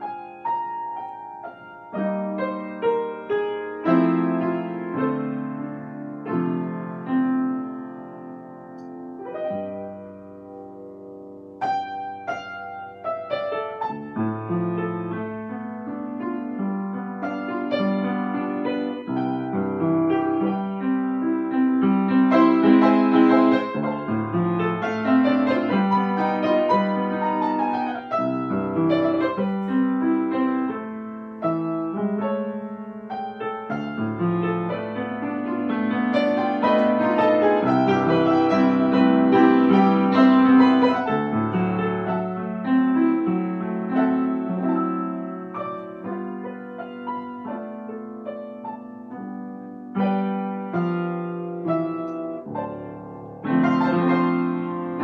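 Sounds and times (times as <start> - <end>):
upright piano playing: 0.0 - 55.0.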